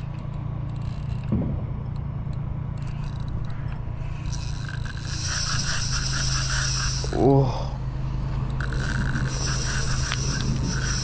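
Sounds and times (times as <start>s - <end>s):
fishing reel gears whirring: 0.0s - 7.8s, 8.4s - 11.0s.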